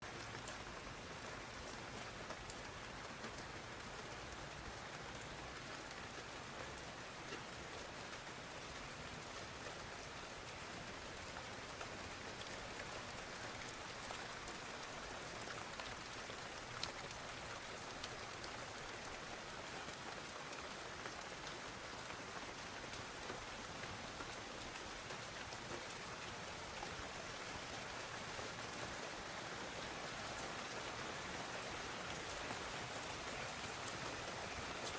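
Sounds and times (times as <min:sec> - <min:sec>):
raindrops ticking on surfaces: 0:00.0 - 0:34.9
steady rain hiss: 0:00.0 - 0:34.9.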